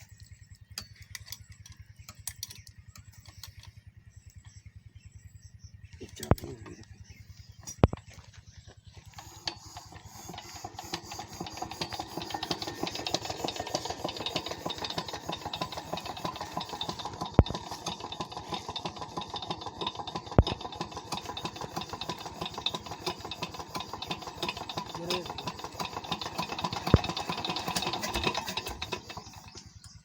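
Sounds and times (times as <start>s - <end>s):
diesel engine starting and running: 5.9s - 30.0s.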